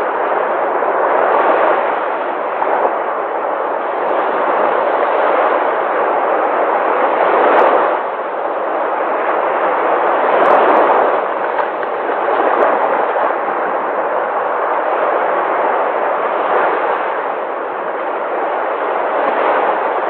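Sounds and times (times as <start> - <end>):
sea waves breaking: 0.0 - 20.0.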